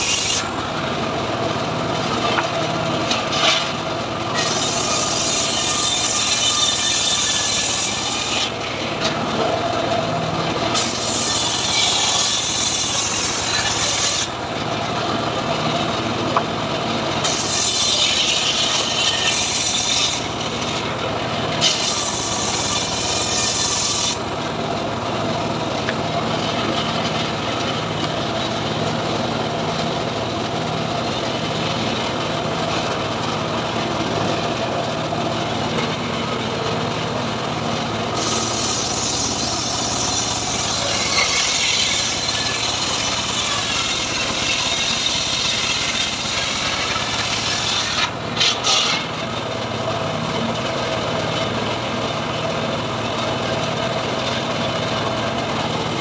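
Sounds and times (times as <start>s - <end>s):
circular saw cutting wood: 0.0s - 36.8s, 37.5s - 56.0s.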